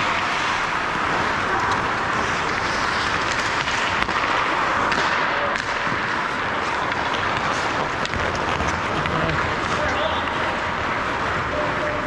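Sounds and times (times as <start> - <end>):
clicks of skates and sticks: 0.0 - 12.0
ice rink ambience hiss: 0.0 - 12.0.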